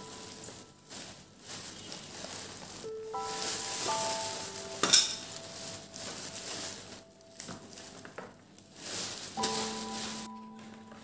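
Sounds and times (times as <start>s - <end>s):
background music held notes: 0.0s - 11.0s
plastic bag rustling: 0.0s - 11.0s.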